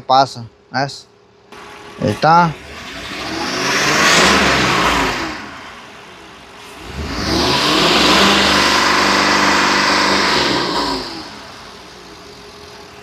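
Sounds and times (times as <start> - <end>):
engine revving: 1.5 - 13.0.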